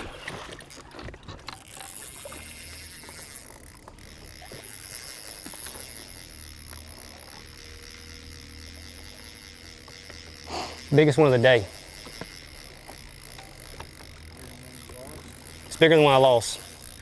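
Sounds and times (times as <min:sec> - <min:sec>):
low steady hum: 0:00.0 - 0:17.0
fishing reel clicking: 0:00.3 - 0:17.0.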